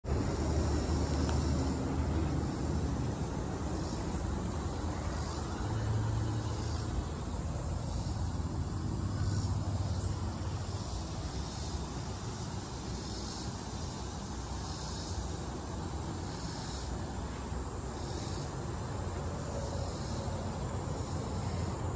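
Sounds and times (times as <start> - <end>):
diesel truck engine idling: 0.1 - 21.9.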